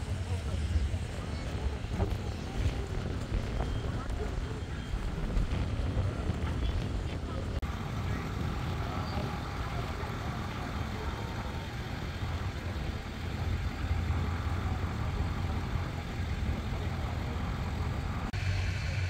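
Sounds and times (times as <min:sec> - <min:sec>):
vehicle engines idling: 0:00.0 - 0:19.0.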